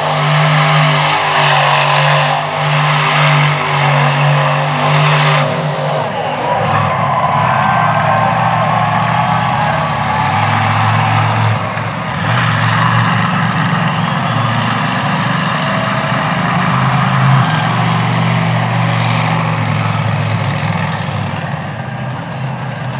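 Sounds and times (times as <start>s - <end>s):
loud truck engine running: 0.0s - 22.9s.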